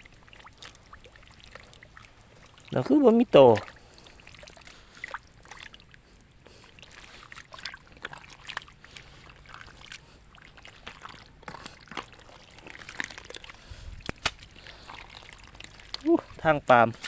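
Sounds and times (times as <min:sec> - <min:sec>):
fish flapping in shallow water: 0:00.0 - 0:17.0
water trickling: 0:00.0 - 0:17.0.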